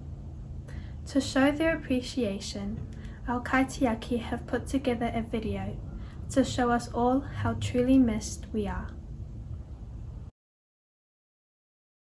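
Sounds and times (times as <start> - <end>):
faint room noise: 0.0 - 10.3.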